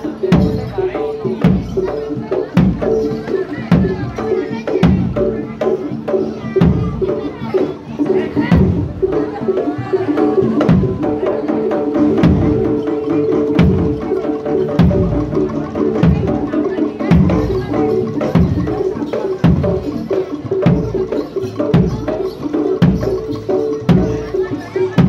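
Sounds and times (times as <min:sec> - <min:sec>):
deep drum beat: 0:00.0 - 0:25.0
gamelan ensemble music: 0:00.0 - 0:25.0
hand drum strokes: 0:00.0 - 0:25.0.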